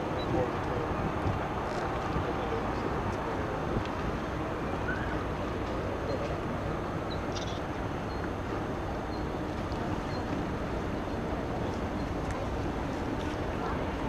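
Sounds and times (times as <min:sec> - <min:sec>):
faint indistinct voices: 0:00.0 - 0:06.6, 0:08.6 - 0:14.0
low rumble and hiss: 0:00.0 - 0:14.0.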